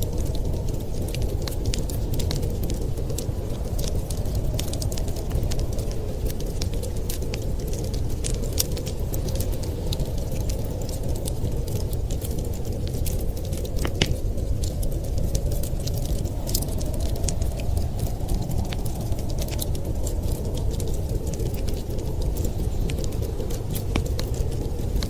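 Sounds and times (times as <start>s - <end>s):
blizzard wind rushing: 0.0s - 25.0s
wood fire crackling and popping: 0.0s - 25.0s.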